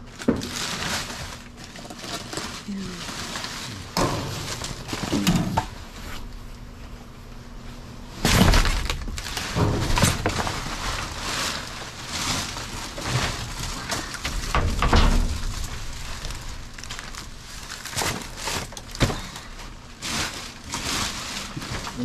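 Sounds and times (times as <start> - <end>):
plastic bags and cardboard crinkling: 0.0 - 22.0.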